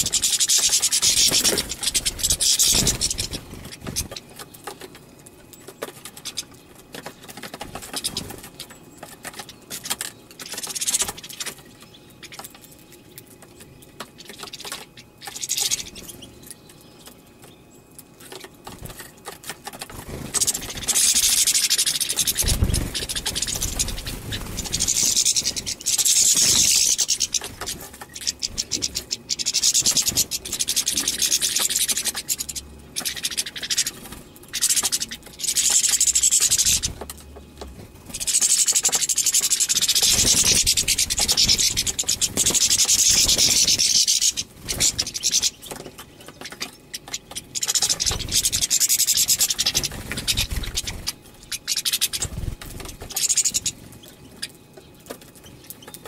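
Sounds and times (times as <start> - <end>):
goldfinches twittering song: 0.0 - 56.0.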